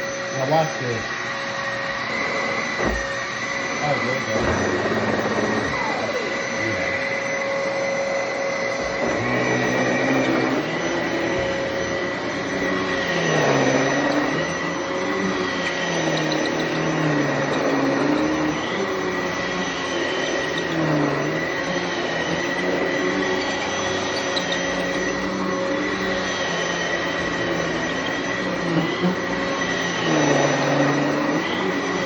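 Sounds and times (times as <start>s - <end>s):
upright vacuum cleaner running: 0.0s - 32.0s.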